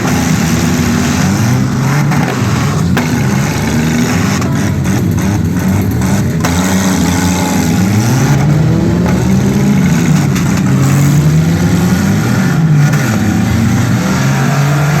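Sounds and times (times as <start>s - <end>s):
car engines running and revving: 0.0s - 15.0s.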